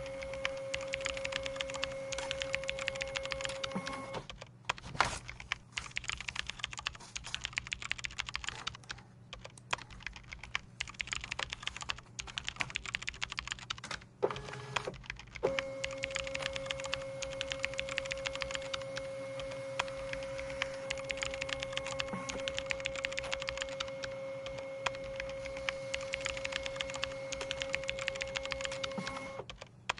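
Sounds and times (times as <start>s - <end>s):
steady hum: 0.0s - 29.4s
typing on computer keyboard: 0.0s - 29.9s.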